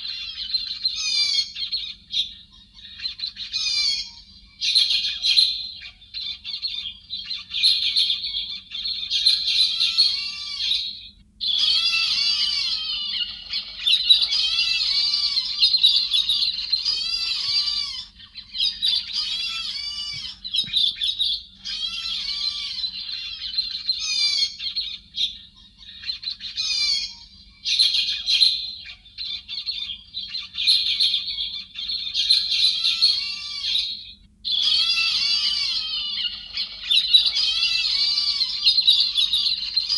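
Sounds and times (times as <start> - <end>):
faint steady hum: 0.0 - 39.9
recorded bird song warbling: 0.0 - 39.9.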